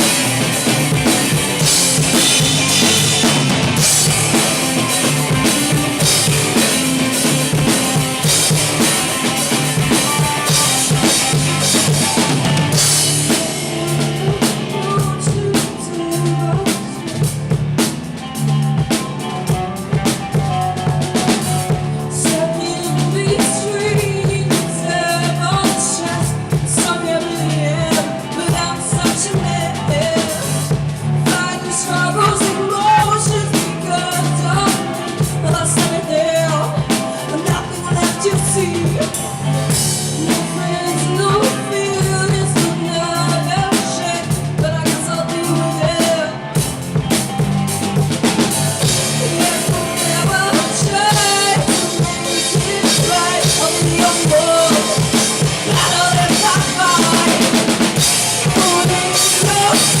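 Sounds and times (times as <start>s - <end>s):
live band playing: 0.0s - 60.0s.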